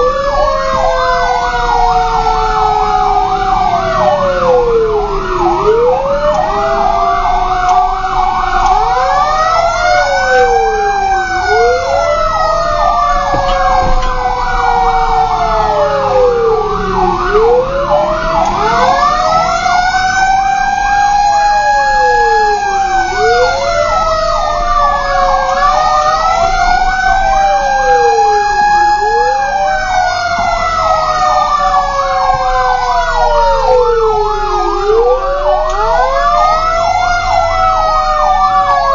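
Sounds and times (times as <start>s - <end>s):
siren wail: 0.0s - 38.9s
siren yelp warbling: 0.0s - 38.9s.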